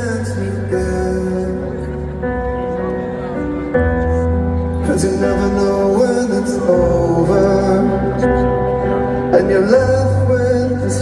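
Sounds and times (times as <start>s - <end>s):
live rock band music: 0.0s - 11.0s
person singing: 0.0s - 11.0s.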